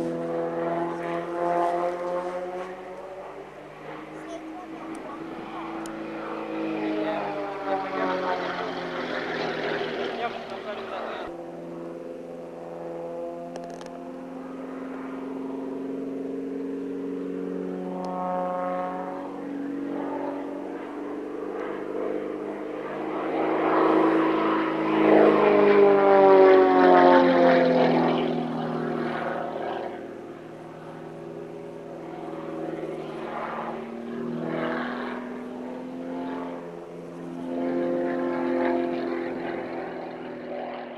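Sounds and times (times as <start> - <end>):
propeller plane engine: 0.0 - 40.9.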